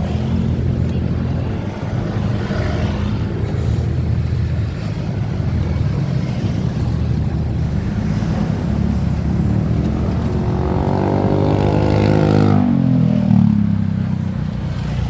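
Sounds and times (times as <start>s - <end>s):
road rumble: 0.0s - 15.0s
vehicle passing by: 0.0s - 15.0s.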